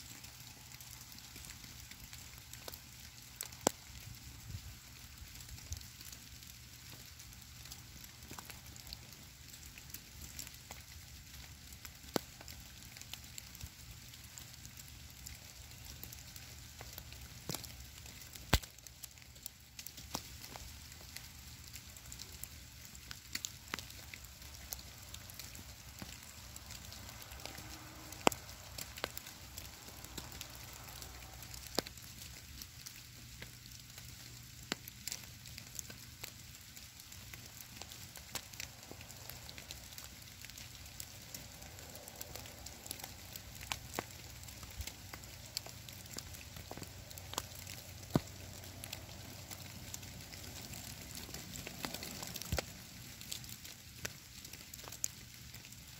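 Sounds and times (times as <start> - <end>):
soft hiss: 0.0 - 55.9
wet snow ticking on stone and leaves: 0.0 - 55.9.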